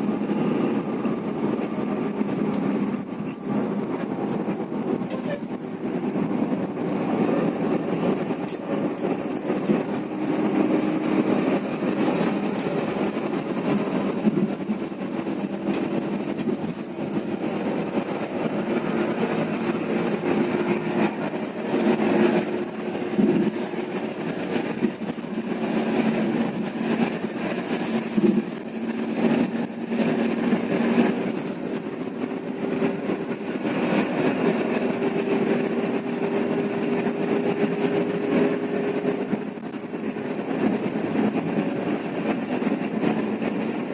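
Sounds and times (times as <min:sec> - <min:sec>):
bus engine hum: 0:00.0 - 0:43.9
road noise: 0:00.0 - 0:43.9.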